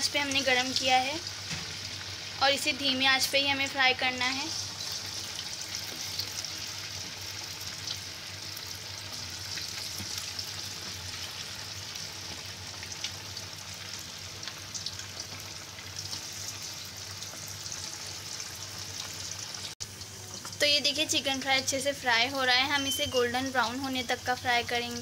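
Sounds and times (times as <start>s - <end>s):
chicken deep-frying in hot oil: 0.0s - 25.0s.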